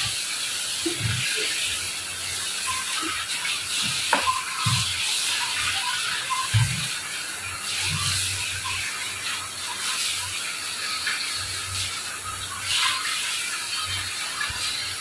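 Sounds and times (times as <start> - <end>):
tap water running into a sink: 0.0 - 15.0.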